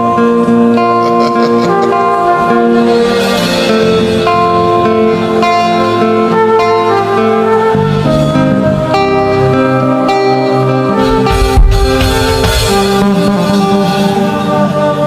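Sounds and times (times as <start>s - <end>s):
instrumental worship music with guitar: 0.0s - 15.0s.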